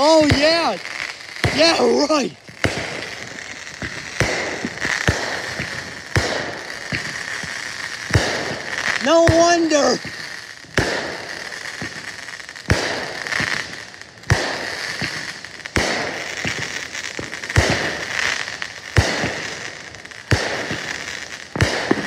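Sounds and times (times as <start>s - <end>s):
fireworks bangs: 0.0s - 22.0s
fireworks hiss: 0.0s - 22.0s.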